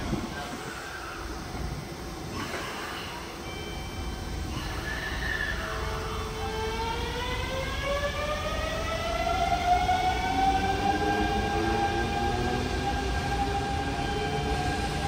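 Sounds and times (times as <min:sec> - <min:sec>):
electric train motor whine: 0:00.0 - 0:15.0
train rumbling on track: 0:00.0 - 0:15.0.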